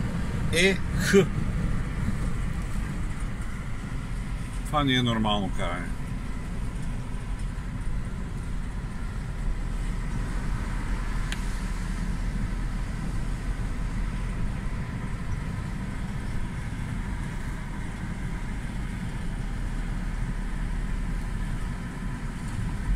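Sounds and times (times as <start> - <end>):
car engine and road noise: 0.0 - 22.9.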